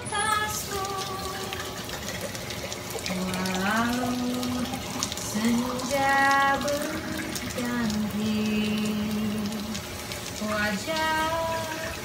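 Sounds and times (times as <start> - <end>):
woman singing softly: 0.0 - 1.8, 3.1 - 9.8, 10.4 - 12.0
chicken frying in oil: 0.0 - 12.0.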